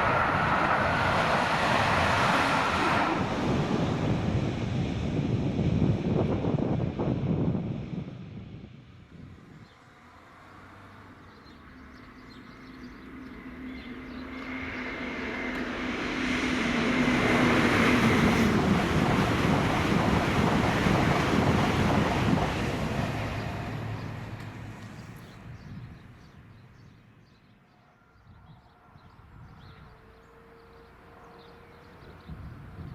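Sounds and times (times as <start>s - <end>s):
train passing at speed: 0.0s - 32.9s.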